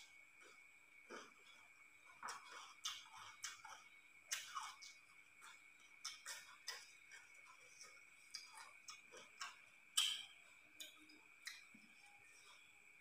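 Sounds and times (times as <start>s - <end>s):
faint high whine: 0.0s - 13.0s
chewing and lip-smacking: 0.4s - 12.7s.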